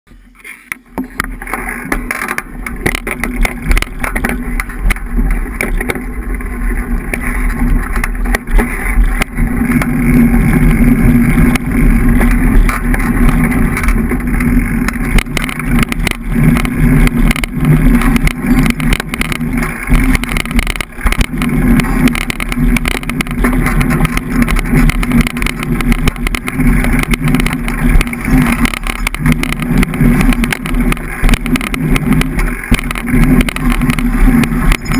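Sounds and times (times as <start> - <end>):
bike tyres rumbling on dirt: 0.1 - 34.9
bike frame rattling: 0.2 - 34.9.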